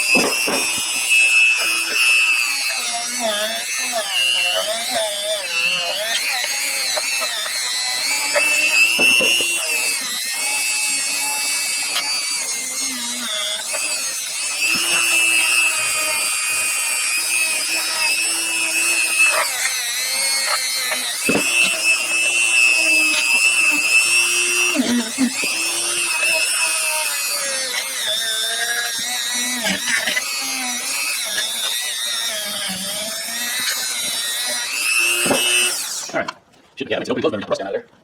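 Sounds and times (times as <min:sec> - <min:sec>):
rotary tool grinding metal: 0:00.0 - 0:36.5.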